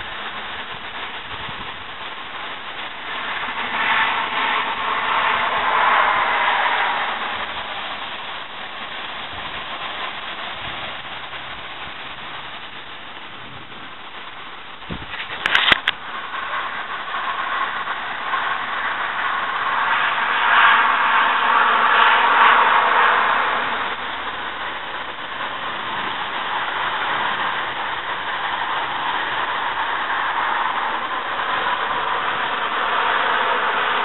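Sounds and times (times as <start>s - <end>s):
wind rushing through trees: 0.0s - 34.0s.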